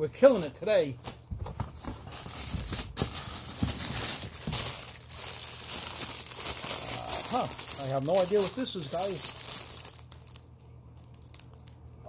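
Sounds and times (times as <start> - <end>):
packaging crinkling: 1.5 - 12.0.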